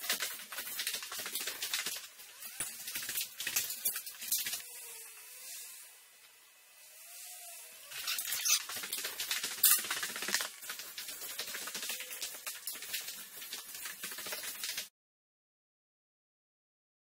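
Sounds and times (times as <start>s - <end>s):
paintbrushes scraping a wall: 0.0s - 6.0s, 6.8s - 14.9s.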